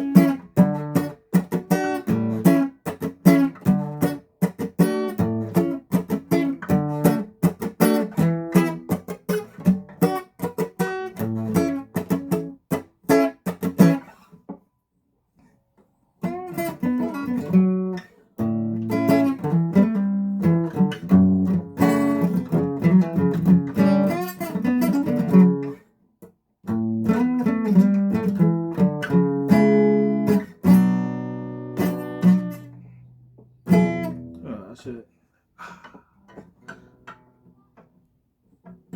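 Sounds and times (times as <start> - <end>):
guitar strumming chords: 0.0 - 14.1, 16.2 - 25.8, 26.7 - 35.0.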